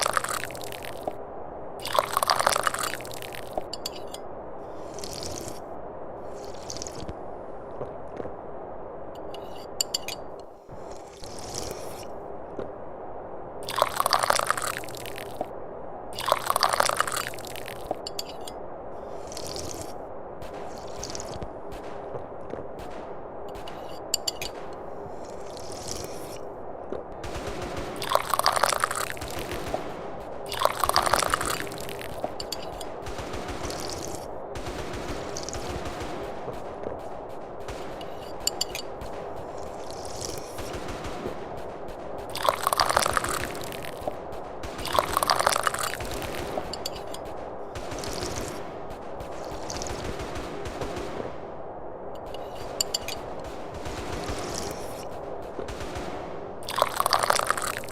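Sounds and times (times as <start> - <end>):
steady background hiss: 0.0 - 57.9.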